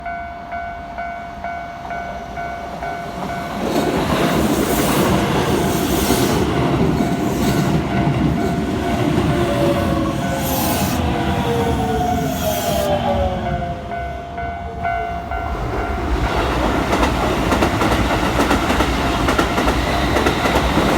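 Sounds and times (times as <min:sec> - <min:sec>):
train rumble and rail noise: 0:00.0 - 0:20.9.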